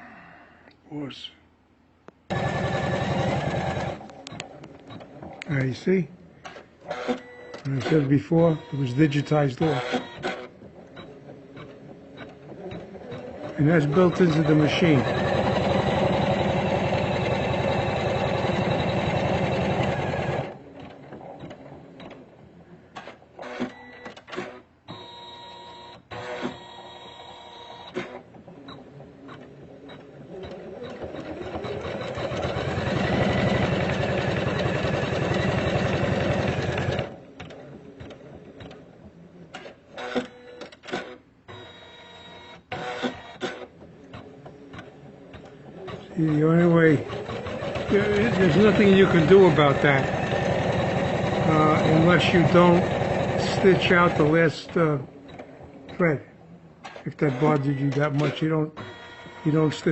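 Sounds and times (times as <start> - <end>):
machine quiet clicks and whirs: 2.0 - 59.9
embroidery machine stitching fast: 2.3 - 5.4, 6.8 - 22.4, 26.1 - 56.2, 56.8 - 59.9.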